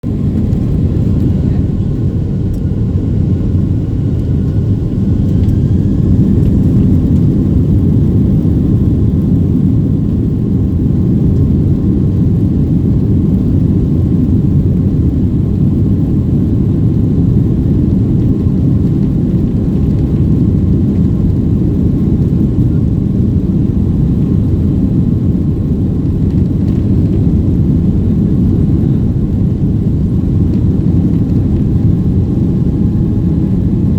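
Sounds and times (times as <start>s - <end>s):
jet engines rumbling: 0.0s - 33.9s.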